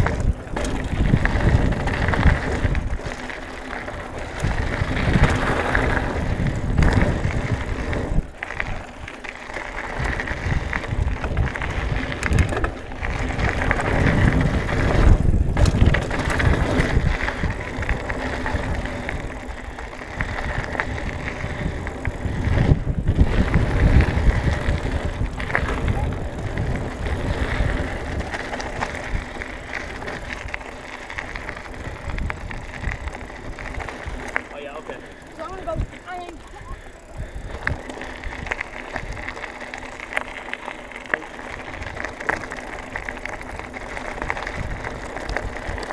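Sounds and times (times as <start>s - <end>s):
bike tyres crunching over gravel: 0.0s - 45.9s.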